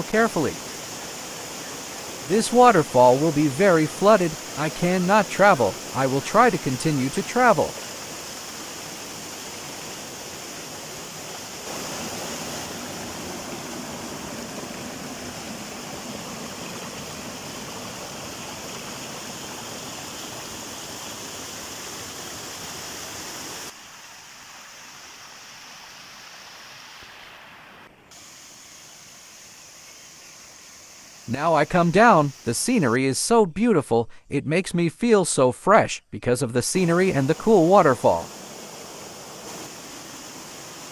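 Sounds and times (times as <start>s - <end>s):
waterfall rushing down rocks: 0.0s - 29.8s, 36.8s - 40.9s.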